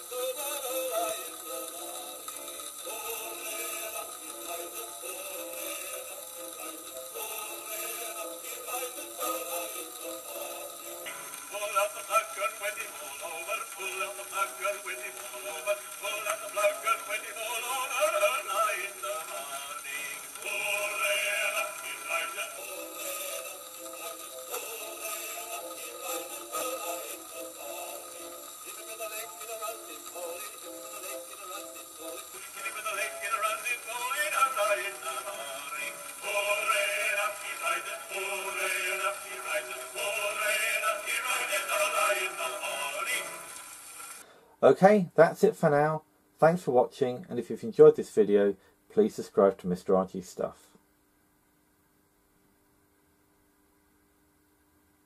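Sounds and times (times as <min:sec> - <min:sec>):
gramophone record with male singer: 0:00.0 - 0:53.8
record hiss: 0:00.0 - 0:55.0.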